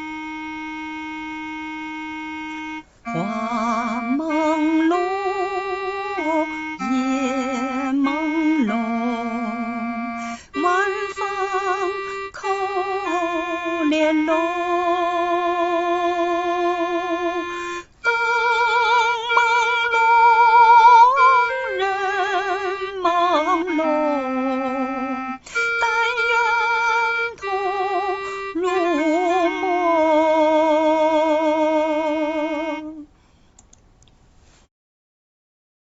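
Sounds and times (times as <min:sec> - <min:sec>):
woman singing with vibrato: 0:03.1 - 0:33.1.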